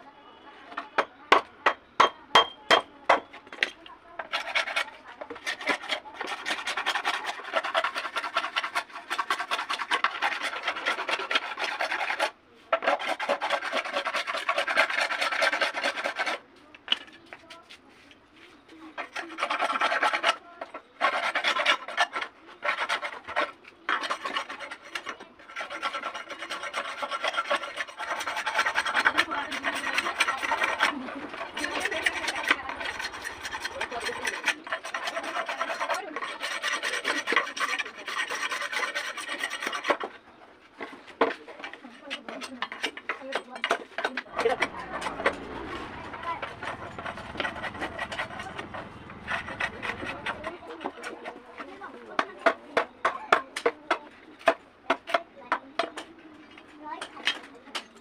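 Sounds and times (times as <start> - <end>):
scraping strokes on bamboo: 0.0 - 58.0.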